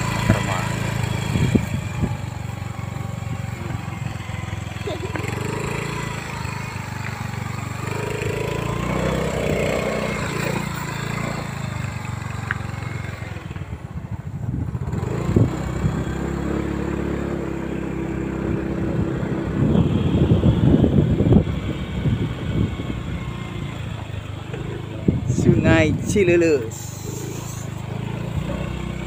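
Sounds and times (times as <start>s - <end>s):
motorcycle engine rumbling: 0.0s - 29.0s.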